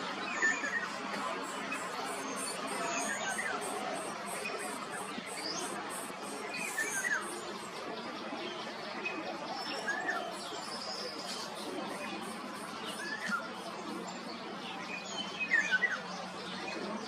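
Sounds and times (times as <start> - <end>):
steady background noise: 0.0 - 17.0
birds chirping: 0.2 - 17.0.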